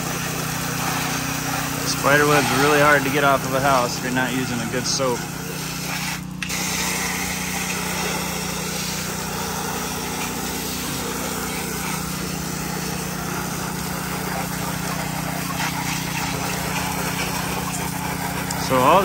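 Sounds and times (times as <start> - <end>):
pressure washer engine running: 0.0 - 19.0
water jet hissing: 0.0 - 19.0.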